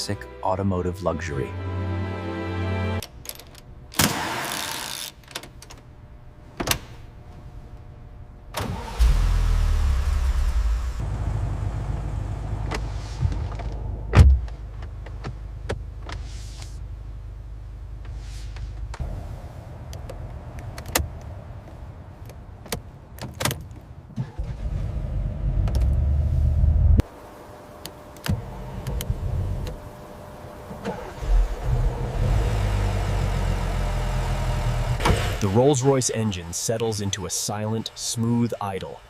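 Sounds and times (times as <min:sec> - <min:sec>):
car engine rumbling: 0:05.5 - 0:39.0.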